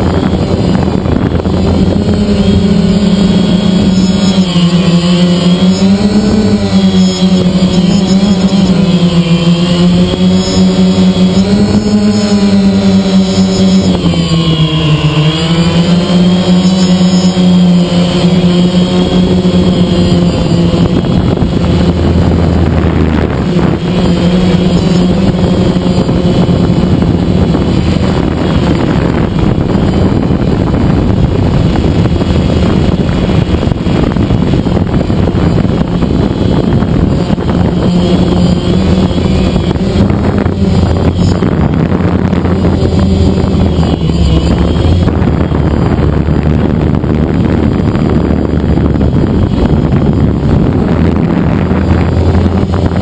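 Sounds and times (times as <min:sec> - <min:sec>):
drone motors humming and whining: 0:00.0 - 0:53.0.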